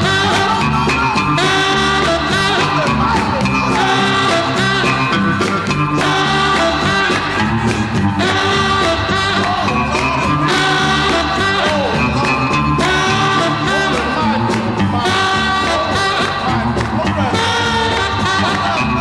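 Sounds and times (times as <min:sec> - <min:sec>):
song with vocals over a beat: 0:00.0 - 0:19.0.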